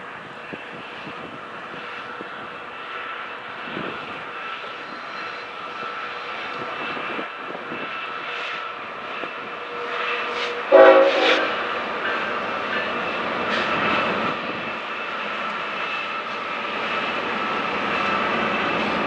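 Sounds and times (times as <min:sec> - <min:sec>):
diesel locomotive engine whine: 0:00.0 - 0:19.0.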